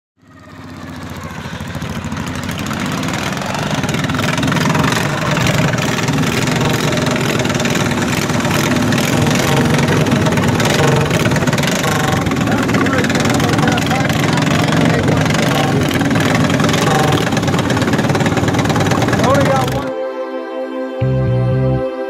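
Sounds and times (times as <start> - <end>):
small tractor engines running: 0.2 - 19.9.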